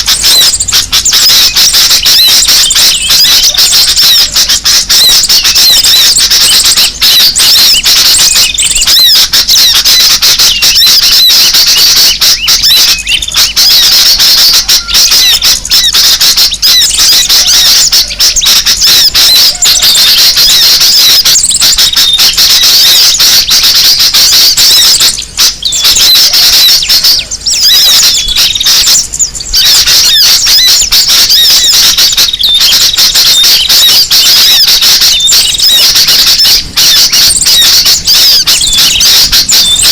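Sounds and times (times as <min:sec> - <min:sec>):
bulbuls chattering: 0:00.0 - 0:39.9
small birds chirping: 0:00.0 - 0:39.9.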